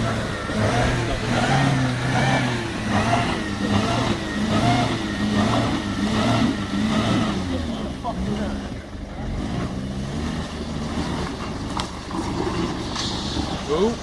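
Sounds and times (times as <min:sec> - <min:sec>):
off-road vehicle engine under load: 0:00.0 - 0:14.0.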